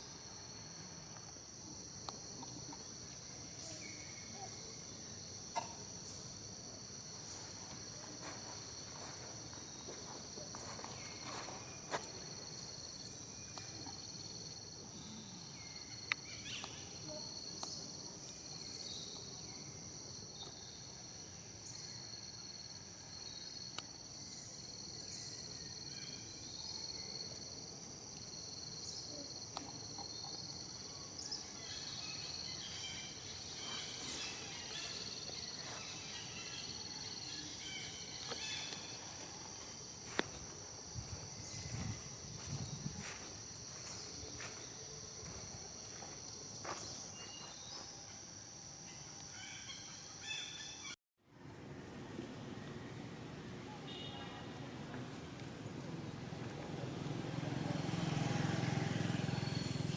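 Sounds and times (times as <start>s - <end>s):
insects buzzing: 0.0s - 51.0s, 53.9s - 59.9s.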